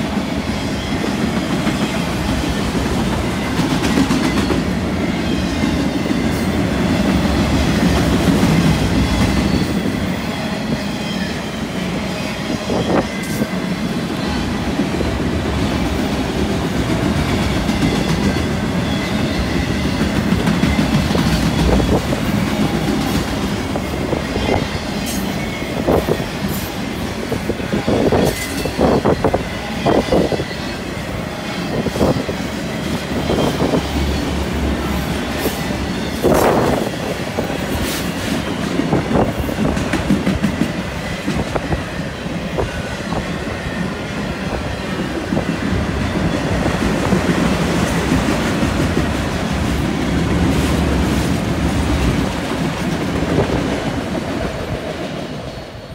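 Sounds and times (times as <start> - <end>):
train cars clanking: 0.0 - 55.9
train wheels rumbling on rail: 0.0 - 55.9.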